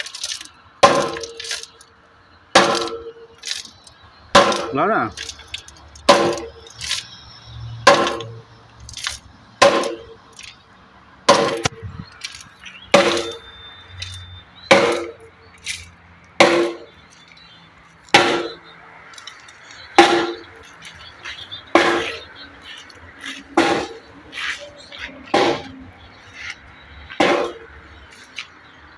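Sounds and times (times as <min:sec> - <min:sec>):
sharp metallic clanks: 0:00.0 - 0:01.9, 0:02.6 - 0:10.7, 0:11.3 - 0:28.6.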